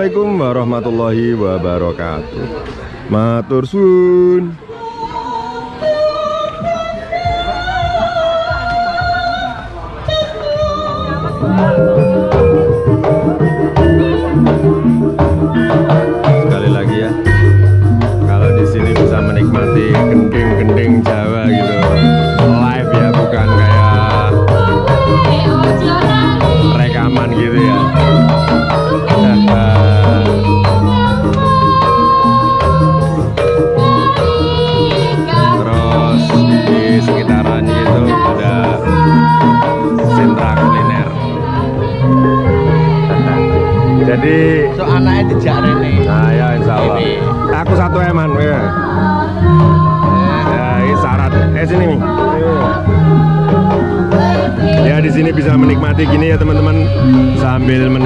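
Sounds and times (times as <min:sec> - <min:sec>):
person singing: 0:04.4 - 0:58.0
drum strokes: 0:10.1 - 0:58.0
struck percussion: 0:10.5 - 0:58.0
metal-keyed gamelan melody: 0:11.0 - 0:58.0.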